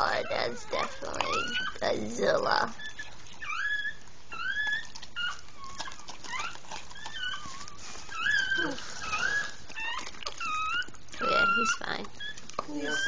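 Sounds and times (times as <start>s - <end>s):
dog whining: 0.0s - 13.0s.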